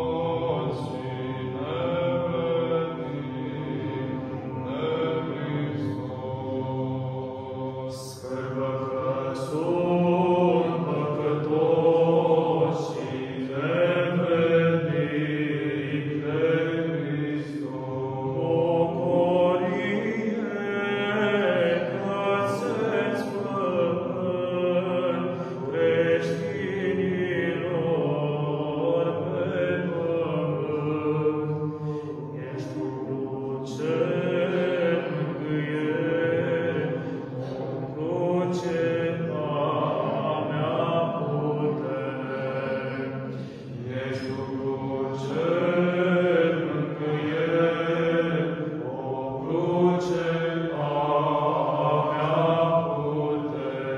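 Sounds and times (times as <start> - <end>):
male choir chanting a cappella: 0.0 - 53.9.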